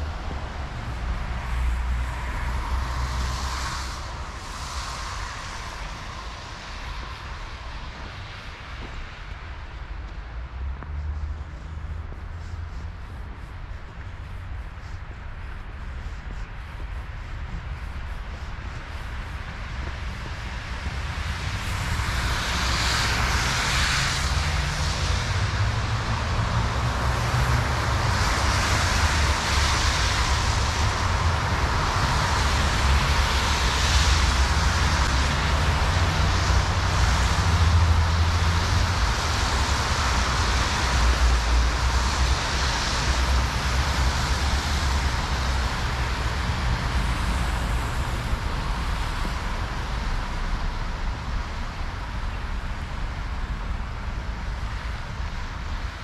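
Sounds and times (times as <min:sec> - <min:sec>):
car tyres hissing on wet road: 0:00.0 - 0:56.0
low traffic rumble: 0:00.0 - 0:56.0.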